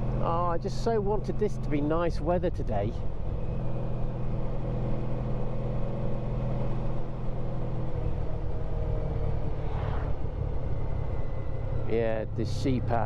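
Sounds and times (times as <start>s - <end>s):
road rumble: 0.0s - 13.0s
wind: 0.0s - 13.0s.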